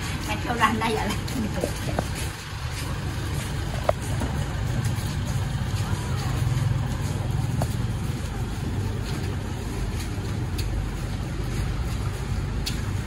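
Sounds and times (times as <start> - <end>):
street traffic engines rumbling: 0.0 - 13.0.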